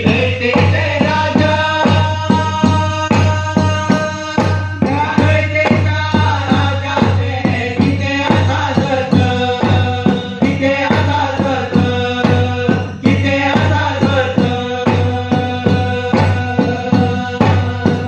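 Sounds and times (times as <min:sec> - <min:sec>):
drums beating: 0:00.0 - 0:18.0
male singers and chorus chanting: 0:00.0 - 0:18.0.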